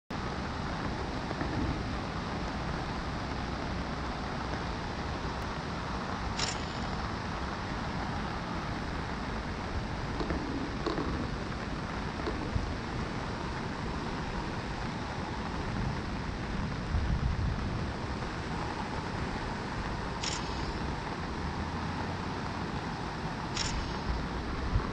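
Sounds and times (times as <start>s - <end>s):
heavy rain: 0.1s - 24.9s
wind on microphone: 0.2s - 24.9s.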